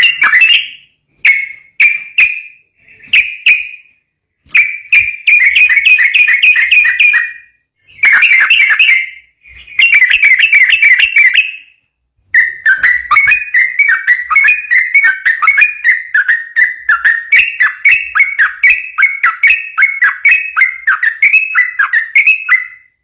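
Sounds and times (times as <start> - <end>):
bulbul chattering song: 0.0 - 11.8, 12.4 - 23.0.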